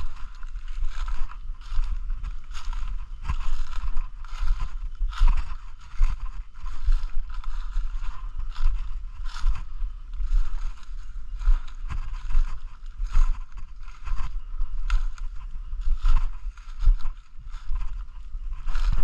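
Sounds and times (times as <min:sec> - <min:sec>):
footsteps crunching through dry leaves: 0:00.0 - 0:19.0
low rumble: 0:00.0 - 0:19.0.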